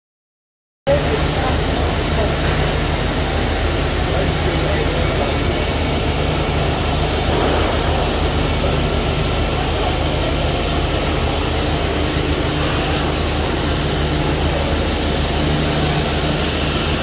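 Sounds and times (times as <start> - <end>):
grinding mill motor running: 0.9 - 17.0.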